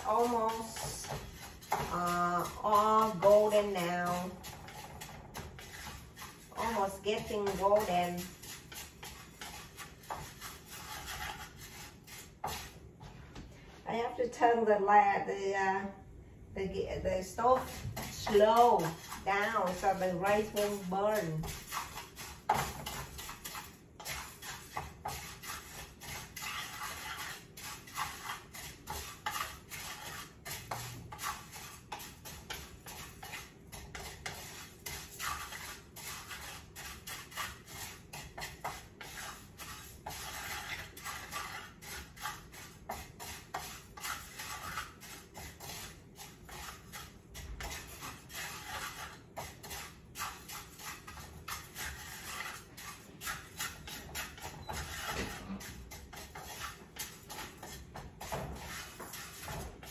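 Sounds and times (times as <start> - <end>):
spatula scraping rice in pan: 0.0 - 12.8, 17.4 - 59.9.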